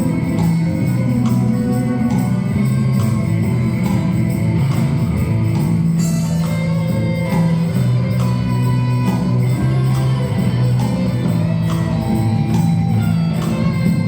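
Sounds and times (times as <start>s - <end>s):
instrumental ensemble playing: 0.0s - 14.0s
percussion beat: 0.0s - 14.0s.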